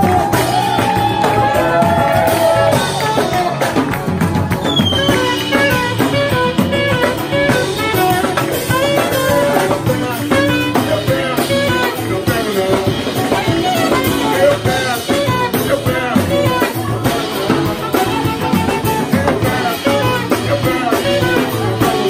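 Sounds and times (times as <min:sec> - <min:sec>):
acoustic guitar: 0:00.0 - 0:22.0
conga drums: 0:00.0 - 0:22.0
live band playing: 0:00.0 - 0:22.0.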